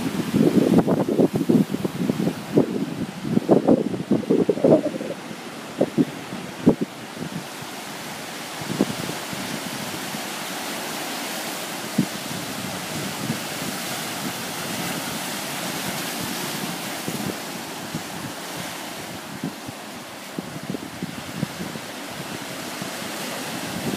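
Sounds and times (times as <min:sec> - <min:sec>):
surf washing over rocks: 0:00.0 - 0:23.9.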